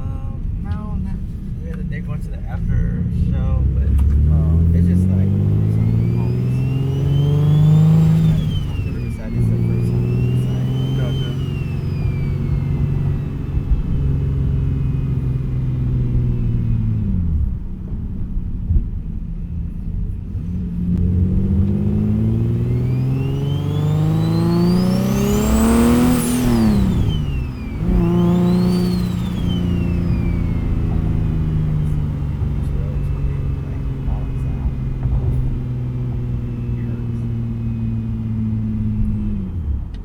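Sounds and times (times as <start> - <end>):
car engine revving: 0.0 - 40.0
turbo whine: 3.5 - 40.0.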